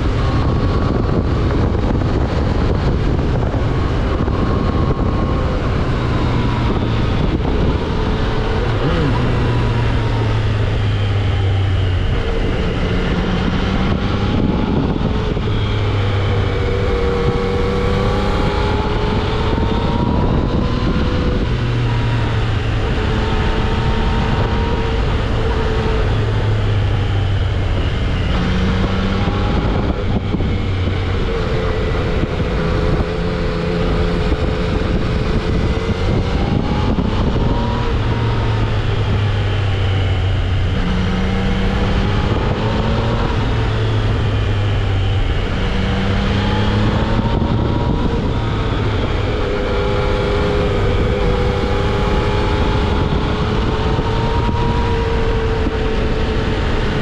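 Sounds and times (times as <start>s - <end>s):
motorcycle engine revving: 0.0s - 57.0s
riding wind rush: 0.0s - 57.0s.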